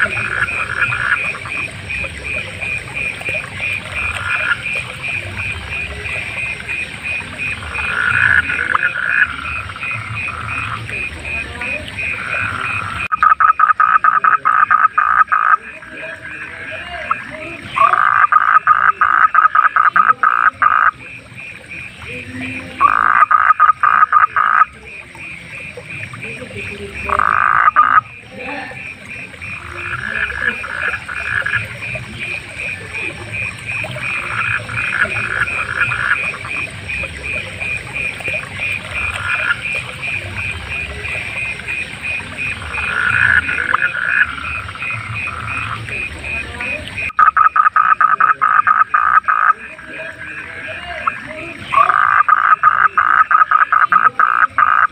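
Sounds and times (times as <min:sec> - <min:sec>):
frog chorus pulsing: 0:00.0 - 0:54.9
frog rattling call: 0:00.0 - 0:54.9.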